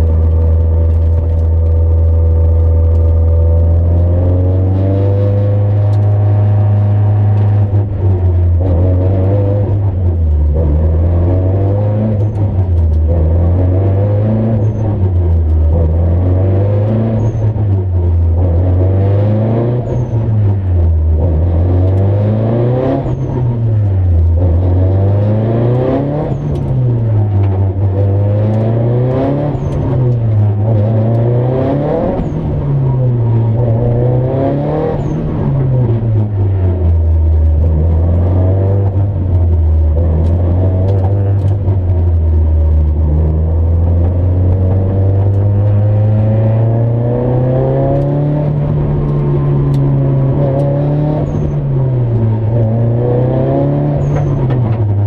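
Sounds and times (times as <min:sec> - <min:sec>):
car engine revving: 0:00.0 - 0:55.0
road and tyre noise: 0:00.0 - 0:55.0.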